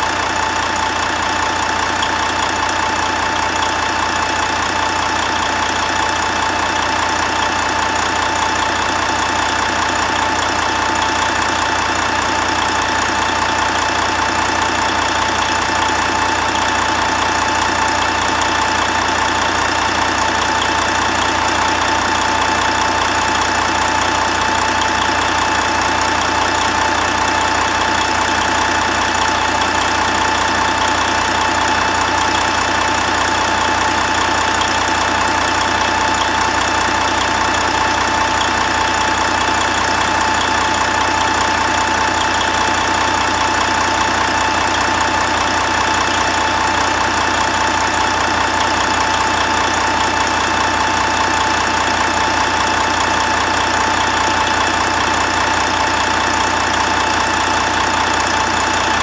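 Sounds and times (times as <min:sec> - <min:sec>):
constant engine whine: 0:00.0 - 0:59.0
diesel engine idling: 0:00.0 - 0:59.0.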